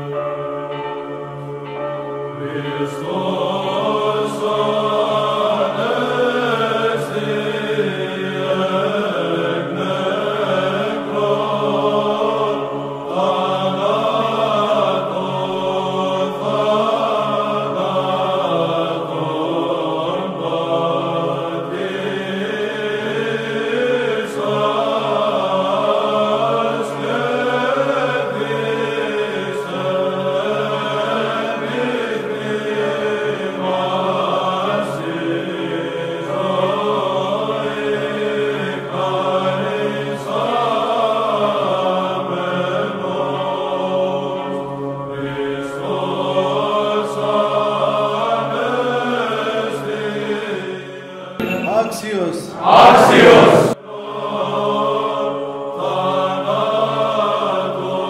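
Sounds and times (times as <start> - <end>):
choir chanting: 1.7 - 58.0.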